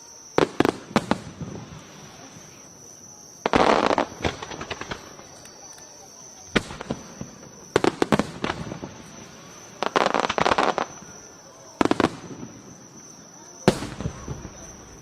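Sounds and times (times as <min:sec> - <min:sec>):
fireworks bangs: 0:00.3 - 0:15.0.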